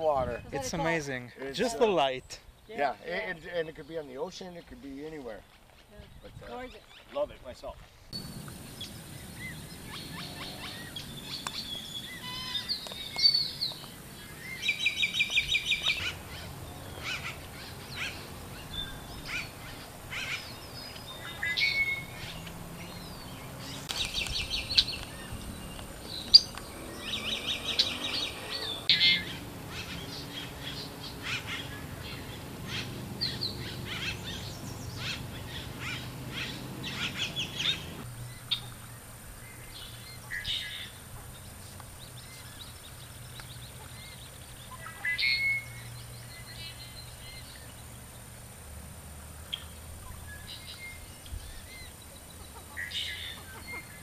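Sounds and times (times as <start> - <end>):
songbird trills: 8.2 - 48.3, 49.4 - 54.0.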